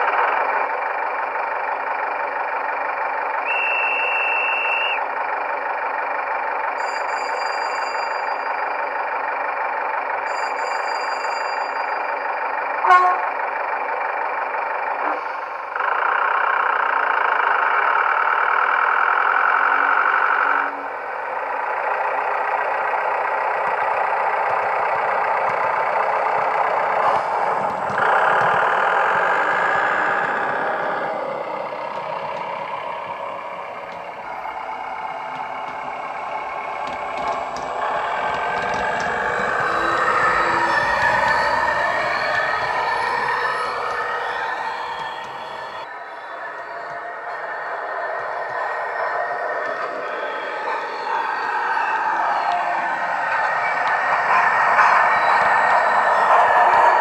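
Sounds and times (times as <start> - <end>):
model train diesel engine sound: 0.0 - 57.0.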